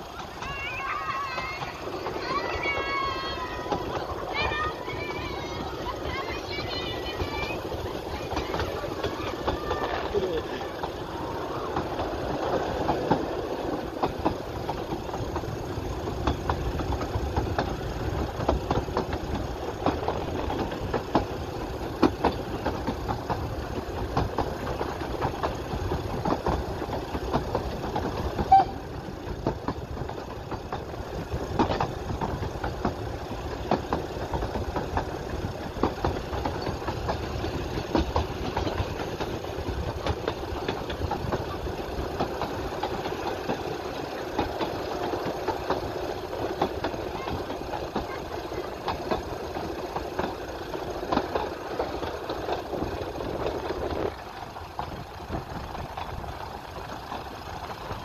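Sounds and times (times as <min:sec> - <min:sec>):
steam train rumbling: 0:00.0 - 0:58.0.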